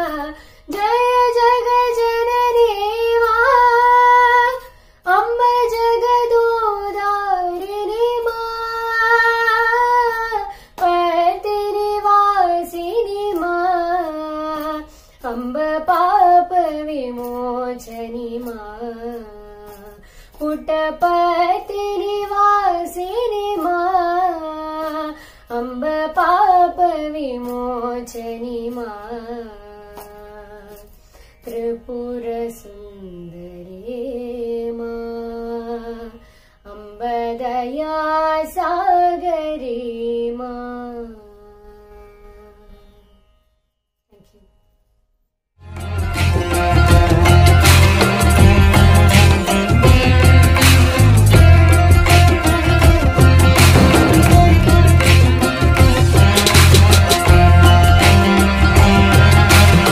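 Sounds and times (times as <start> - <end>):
woman singing: 0.0 - 42.6, 46.4 - 59.9.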